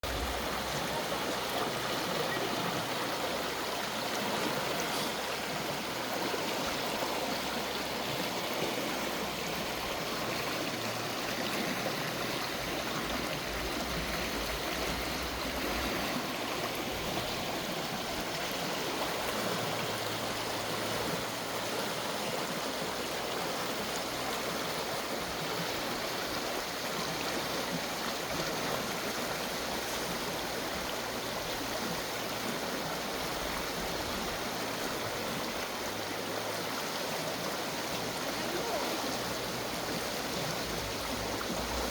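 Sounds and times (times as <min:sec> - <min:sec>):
river water rushing over stones: 0:00.0 - 0:41.9.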